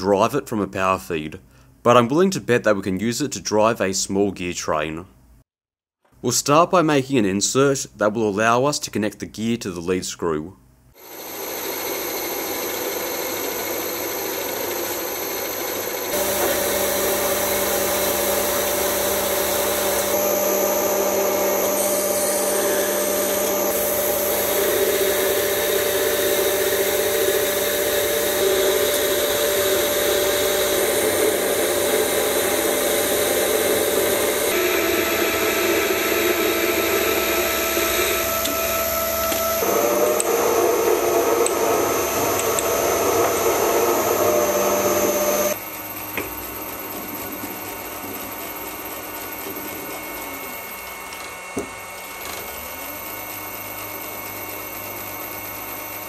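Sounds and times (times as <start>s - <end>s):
metal lathe humming: 11.0s - 55.9s
drill boring into metal: 11.0s - 56.0s.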